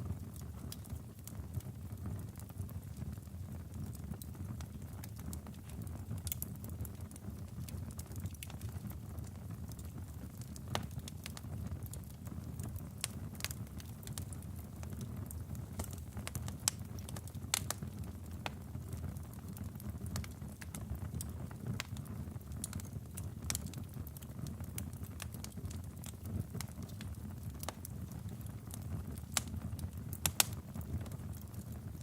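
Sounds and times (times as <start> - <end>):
fire crackles and pops: 0.0 - 32.0
fire flame rumble: 0.0 - 32.0.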